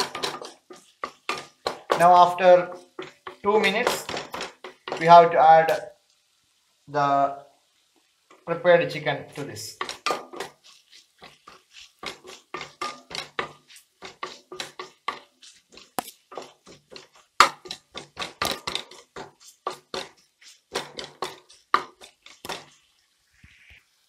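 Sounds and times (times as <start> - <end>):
wooden spatula scraping a wok: 0.0 - 5.9, 8.1 - 23.9.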